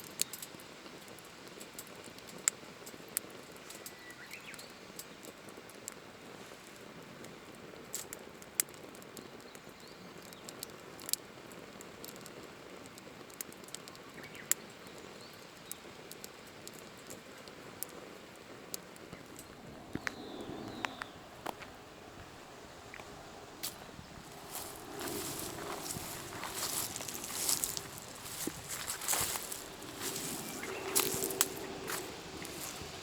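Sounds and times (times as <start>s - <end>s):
log fire crackling and popping: 0.0s - 4.0s, 4.6s - 33.0s.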